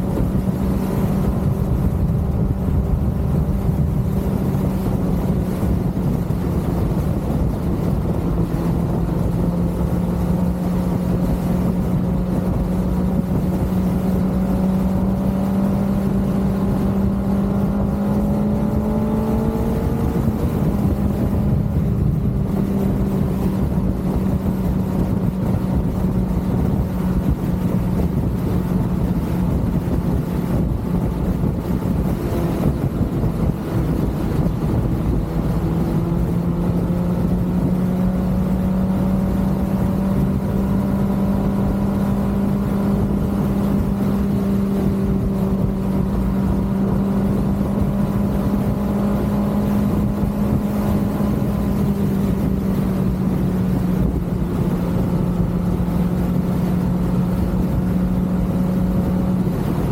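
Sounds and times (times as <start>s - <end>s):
motorcycle engine cruising: 0.0s - 59.9s
rushing wind and road noise: 0.0s - 59.9s.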